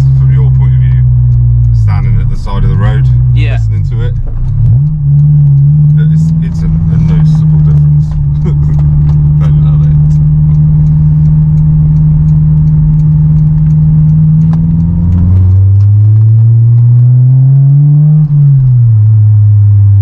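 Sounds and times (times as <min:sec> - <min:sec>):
car engine and exhaust: 0:00.0 - 0:20.0.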